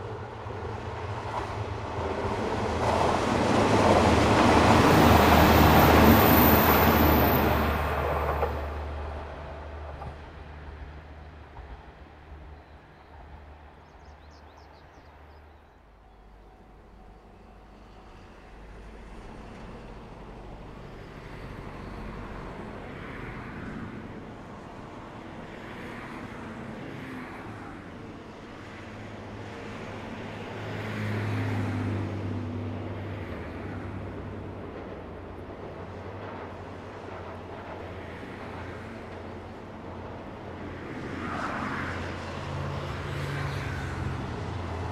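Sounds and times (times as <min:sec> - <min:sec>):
diesel railcar engine rumble: 0:00.0 - 0:30.7, 0:31.7 - 0:41.1.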